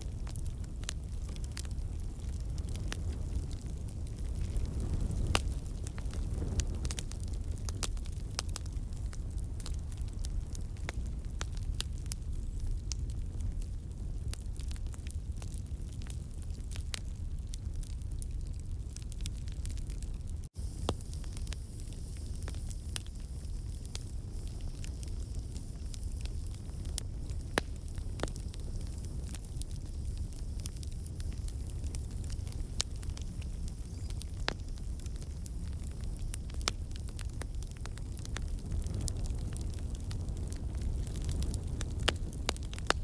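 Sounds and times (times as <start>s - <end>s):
logs crackling and popping: 0.0s - 43.0s
low rumble of flames: 0.0s - 43.0s.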